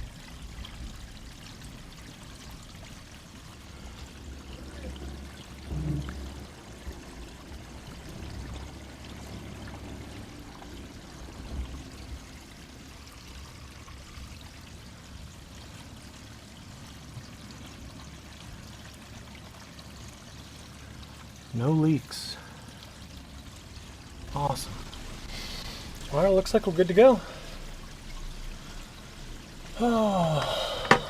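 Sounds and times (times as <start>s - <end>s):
water running through pipes: 0.0s - 31.0s.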